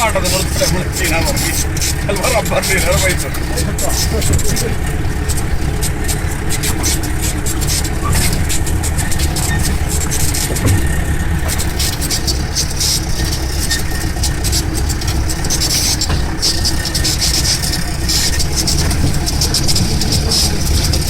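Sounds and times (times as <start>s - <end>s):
car engine droning: 0.0s - 21.0s
clicks and rattles: 0.0s - 21.0s.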